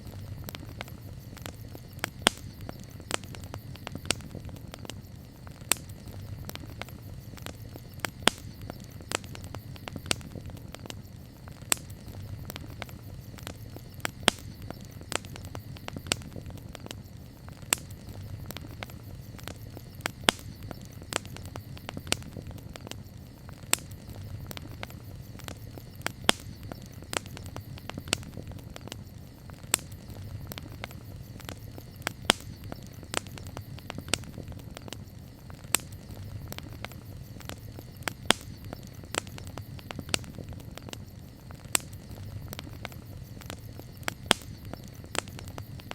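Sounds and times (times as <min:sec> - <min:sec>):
campfire crackling: 0:00.0 - 0:45.9
sharp pops of fire: 0:00.0 - 0:45.9.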